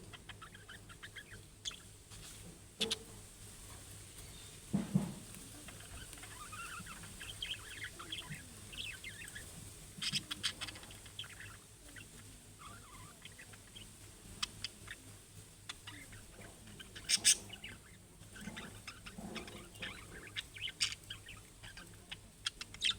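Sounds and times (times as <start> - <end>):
budgerigars chattering: 0.0 - 1.9, 2.8 - 3.2, 5.5 - 22.9.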